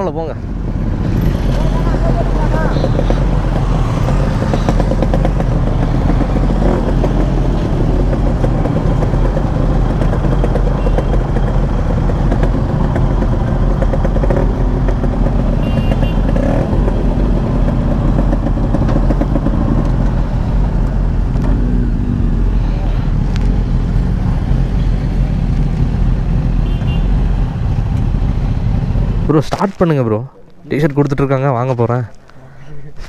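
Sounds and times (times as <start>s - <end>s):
motorcycle engines idling: 0.0s - 33.0s.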